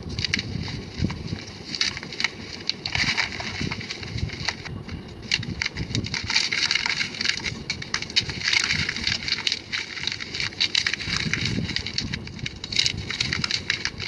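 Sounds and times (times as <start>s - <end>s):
chalk crunching and crackling: 0.0s - 14.0s.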